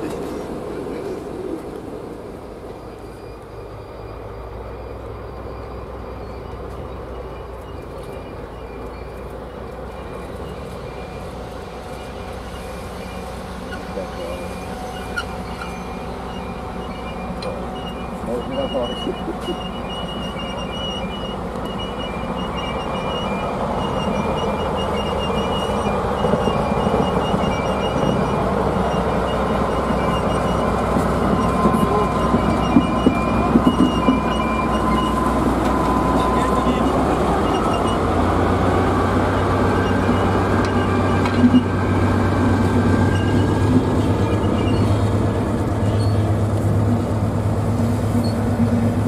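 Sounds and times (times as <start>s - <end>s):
diesel locomotive engine running: 0.0s - 49.0s
train wheels rumbling on rails: 0.0s - 49.0s.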